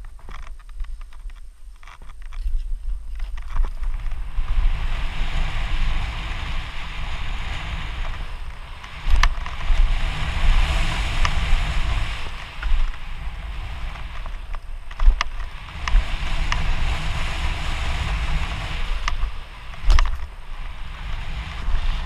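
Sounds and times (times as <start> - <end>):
bike tyres rolling over dirt: 0.0 - 22.0
wind buffeting microphone: 0.0 - 22.0.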